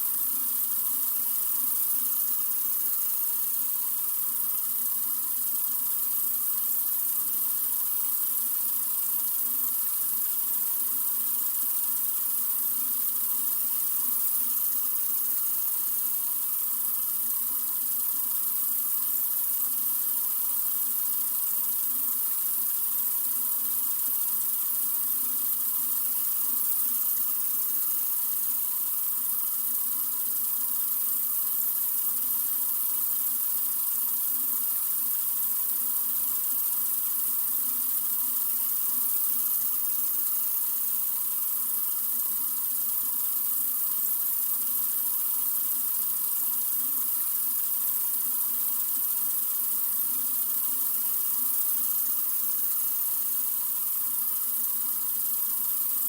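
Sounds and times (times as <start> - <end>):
water running from faucet: 0.0 - 56.0.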